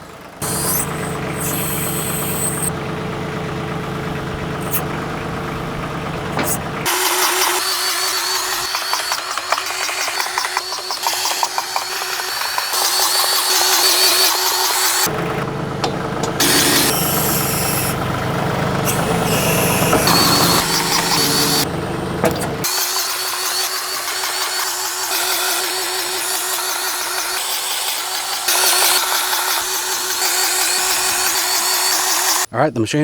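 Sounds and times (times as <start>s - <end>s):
tractor engine running: 0.0s - 32.5s
grease gun motor whining: 0.4s - 2.8s, 4.3s - 32.5s.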